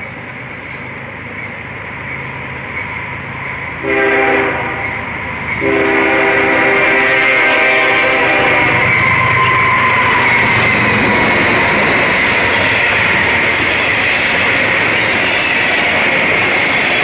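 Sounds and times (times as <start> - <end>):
diesel locomotive passing: 0.0 - 17.0
rail cars rattling: 0.0 - 17.0
train wheels rushing on rails: 0.0 - 17.0.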